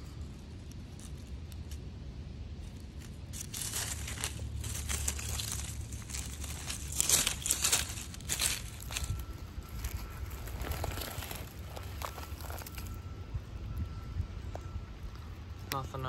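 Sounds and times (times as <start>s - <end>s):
dry leaves rustling and crunching: 0.0s - 13.1s
steady low rumble: 0.0s - 16.0s.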